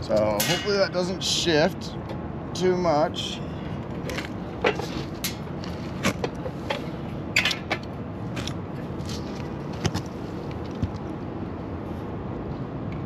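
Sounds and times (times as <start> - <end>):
air conditioner unit running: 0.0 - 12.9.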